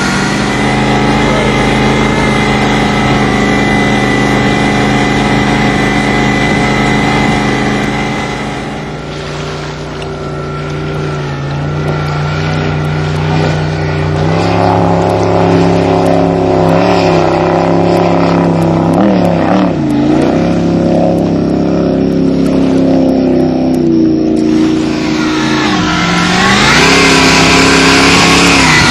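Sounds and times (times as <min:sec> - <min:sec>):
boat engine running loud: 0:00.0 - 0:28.9.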